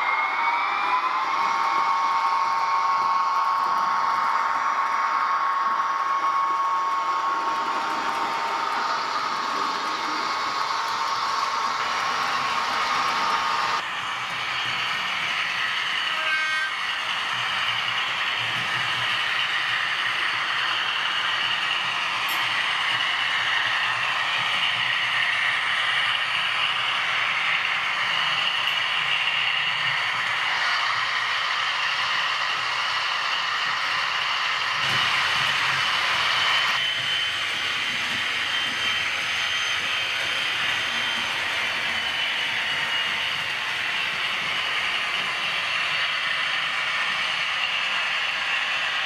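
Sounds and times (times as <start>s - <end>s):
model train running on track: 0.0s - 49.0s.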